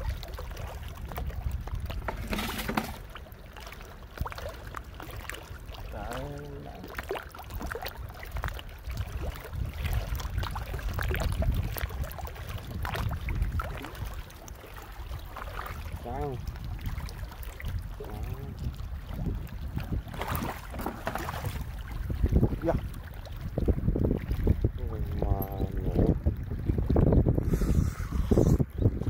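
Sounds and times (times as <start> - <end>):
shallow seawater sloshing: 0.0 - 28.9
wind rumbling on microphone: 0.0 - 29.0.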